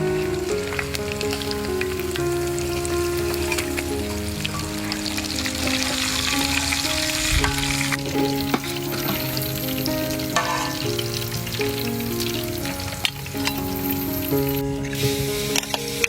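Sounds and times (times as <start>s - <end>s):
background music with held notes: 0.0s - 16.0s
food sizzling in oil: 0.0s - 16.0s.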